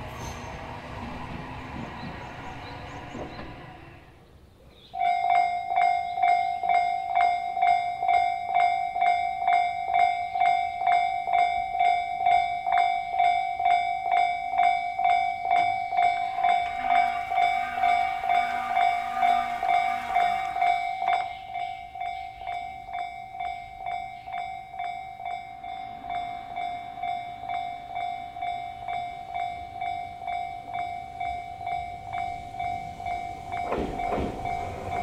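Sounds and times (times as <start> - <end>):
level-crossing warning bell: 4.9 - 35.0.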